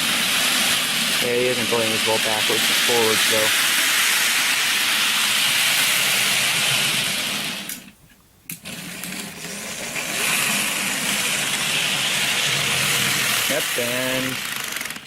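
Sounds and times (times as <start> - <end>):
model train motor whirring: 0.0 - 7.9, 8.5 - 15.0.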